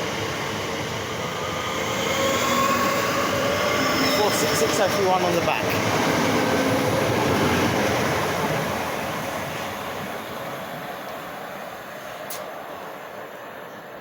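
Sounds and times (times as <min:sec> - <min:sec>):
electric train running on rails: 0:00.0 - 0:14.0.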